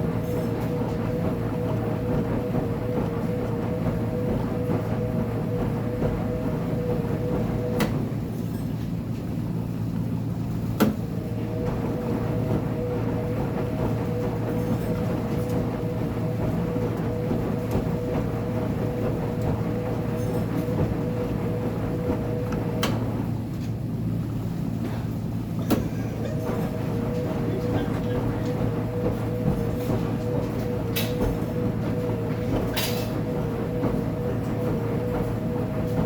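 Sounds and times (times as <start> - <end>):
washing machine motor hum and whine: 0.0 - 36.0.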